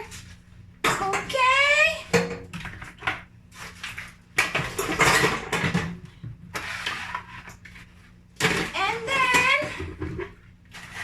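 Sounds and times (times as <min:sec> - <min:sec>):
scrubbing dishes: 0:02.2 - 0:11.0.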